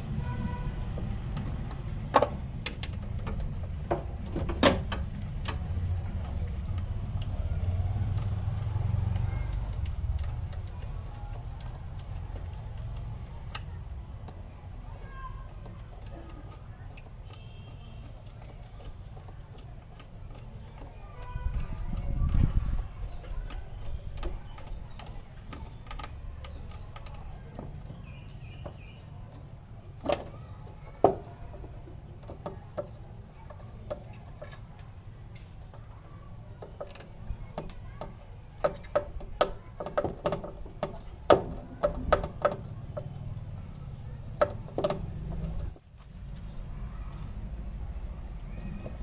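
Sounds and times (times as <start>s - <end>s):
sharp clicks and knocks: 0.3s - 49.0s.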